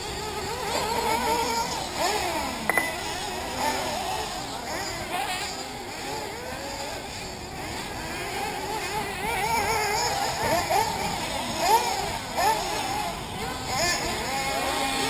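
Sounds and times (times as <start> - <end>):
small engines whining at high revs: 0.0 - 15.0.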